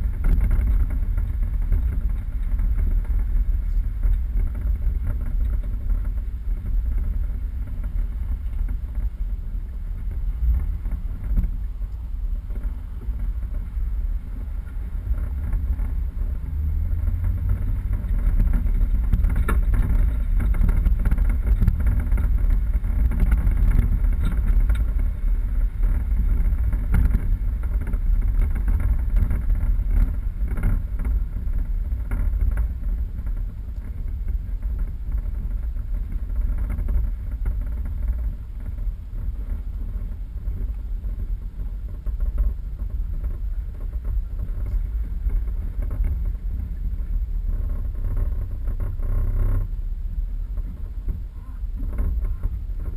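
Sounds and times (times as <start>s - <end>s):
off-road vehicle engine rumble: 0.0s - 52.9s.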